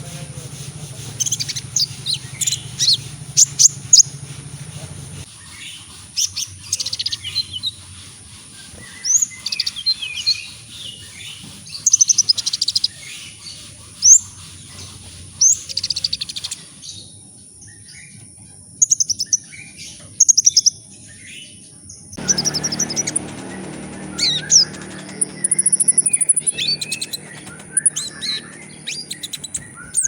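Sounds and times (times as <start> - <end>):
sunbird singing: 0.0 - 18.2, 18.8 - 30.0.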